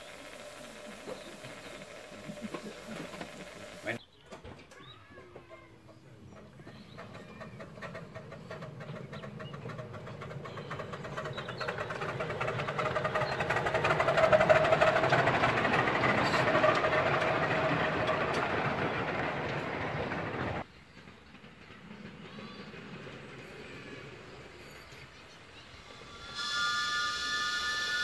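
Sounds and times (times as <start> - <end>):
miniature train running: 0.0 - 4.0, 4.7 - 28.0.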